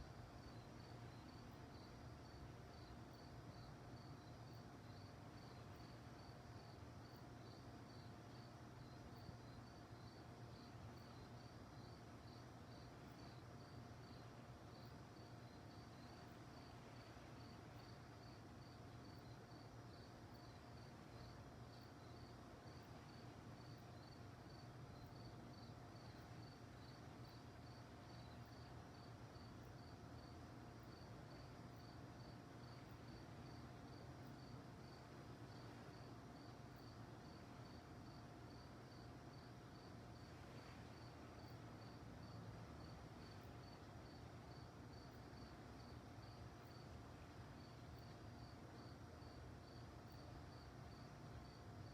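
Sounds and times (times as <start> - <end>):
faint crickets chirping: 0.0 - 51.9
low background hum: 0.0 - 51.9.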